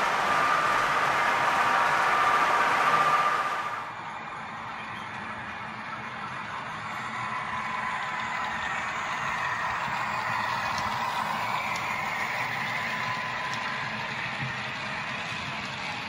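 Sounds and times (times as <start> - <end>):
model train rolling on track: 0.0 - 16.0.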